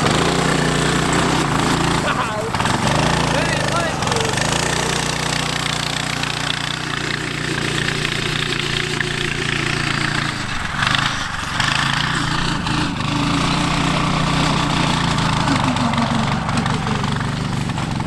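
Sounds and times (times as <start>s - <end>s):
small go-kart engine running: 0.0s - 18.0s.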